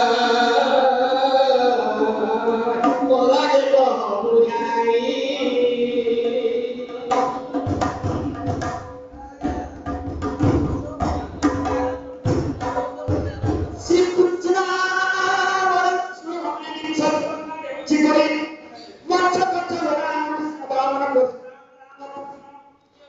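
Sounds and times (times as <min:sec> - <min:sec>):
man singing into a microphone: 0:00.0 - 0:22.7.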